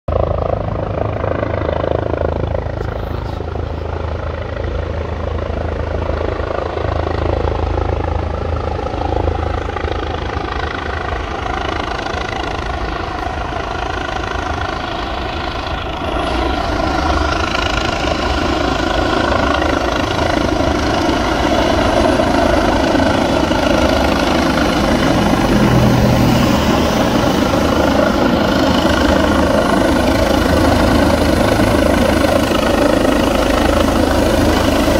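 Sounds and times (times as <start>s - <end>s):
helicopter rotor and engine drone: 0.1s - 34.9s.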